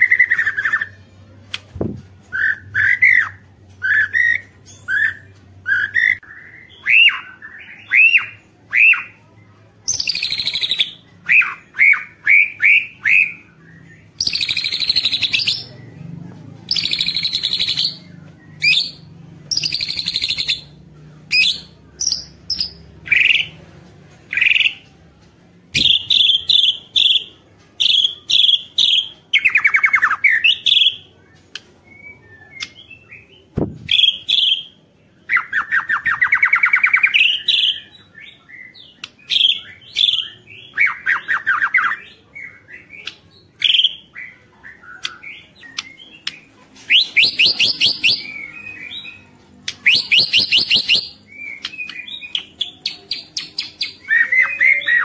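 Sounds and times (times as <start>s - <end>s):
bird whistled song: 1.8s - 9.2s, 9.9s - 15.8s, 16.7s - 23.5s, 25.7s - 55.0s.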